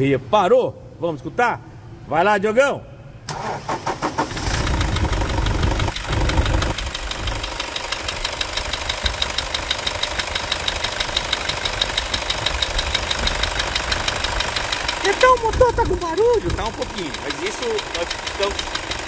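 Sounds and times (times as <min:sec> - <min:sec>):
starter cranking engine: 0:03.3 - 0:19.0
diesel engine idling: 0:03.6 - 0:19.0.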